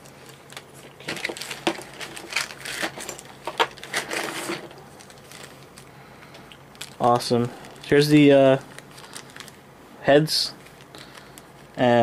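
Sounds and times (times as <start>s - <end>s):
plastic bag crinkling: 0.0s - 9.6s, 10.6s - 12.0s.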